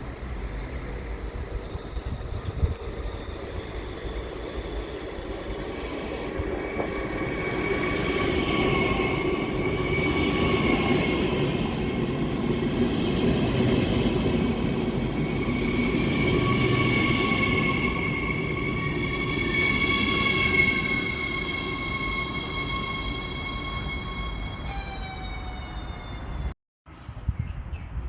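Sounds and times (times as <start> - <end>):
train rumbling past on rails: 0.0 - 26.6.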